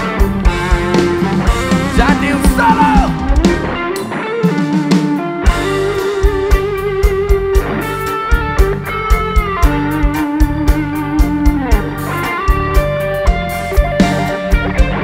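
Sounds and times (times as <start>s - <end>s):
drum and bass beat: 0.0s - 15.0s
electric guitar lead with bent notes: 0.0s - 15.0s.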